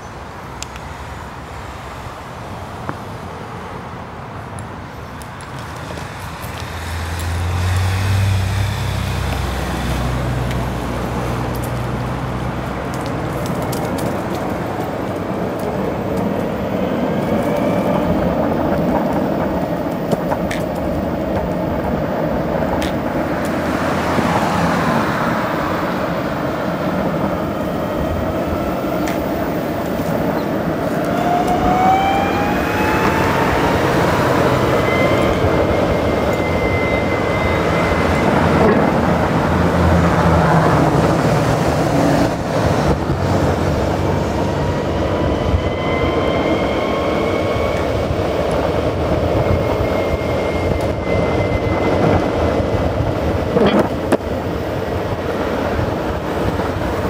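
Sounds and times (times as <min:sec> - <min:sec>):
cars passing: 0:00.0 - 0:57.0
skateboard wheels rolling on asphalt: 0:00.0 - 0:57.0.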